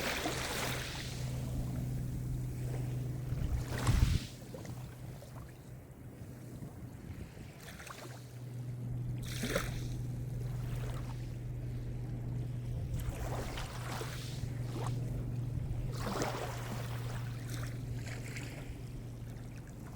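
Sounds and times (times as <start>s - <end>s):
low rumble: 0.0s - 5.9s, 8.5s - 19.9s
small waves breaking on shore: 0.0s - 19.9s.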